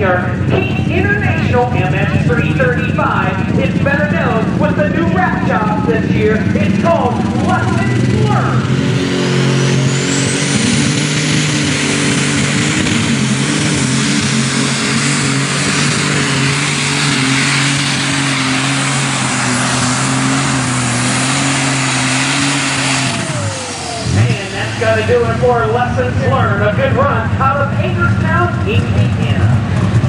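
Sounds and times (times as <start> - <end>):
high turbo whine: 0.0 - 30.0
tractor engine at full throttle: 0.0 - 30.0.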